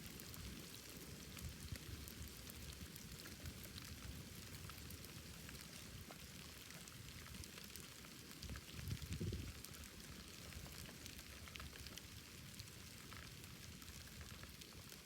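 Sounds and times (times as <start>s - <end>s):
bonfire crackling: 0.0s - 15.0s
low rumble of flames: 0.1s - 14.9s.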